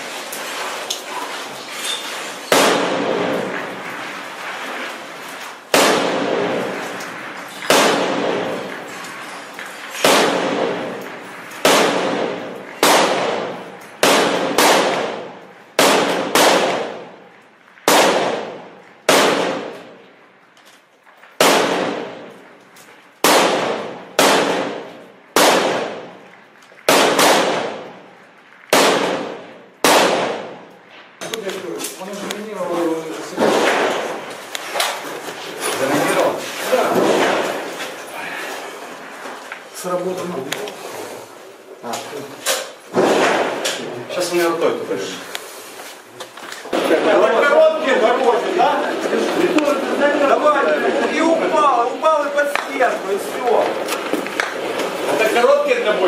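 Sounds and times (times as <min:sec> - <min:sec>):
echoing gunshots: 0:00.0 - 0:20.4, 0:21.3 - 0:31.6, 0:32.2 - 0:39.2, 0:42.6 - 0:45.3, 0:46.7 - 0:56.0.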